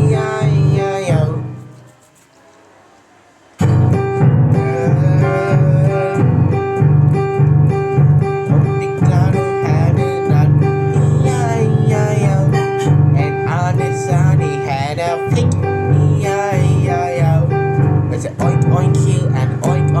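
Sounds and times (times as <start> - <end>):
guitar-led backing track: 0.0 - 2.4, 3.6 - 20.0.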